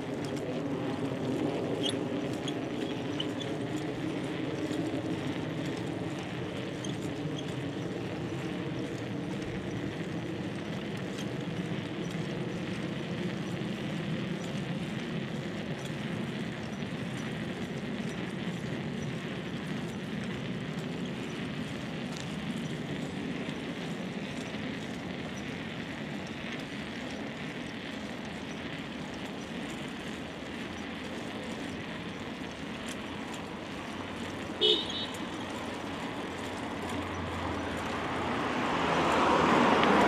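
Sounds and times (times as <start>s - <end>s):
bicycle tyres rolling: 0.0s - 40.0s.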